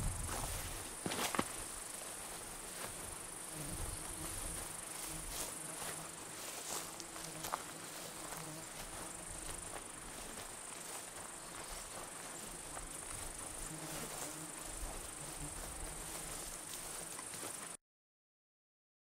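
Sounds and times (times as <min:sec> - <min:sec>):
footsteps through tall grass: 0:00.0 - 0:17.8
insects droning: 0:00.0 - 0:17.8.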